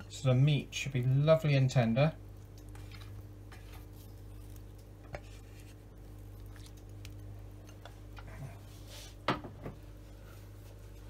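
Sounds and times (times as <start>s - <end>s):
basting brush dabbing sauce: 0.0s - 9.0s
steady low hum: 0.0s - 11.0s.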